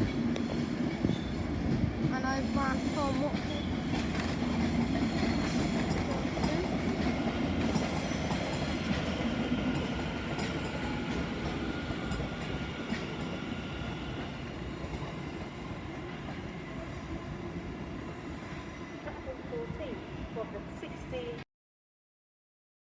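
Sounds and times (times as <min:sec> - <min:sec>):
train rumbling: 0:00.0 - 0:21.4.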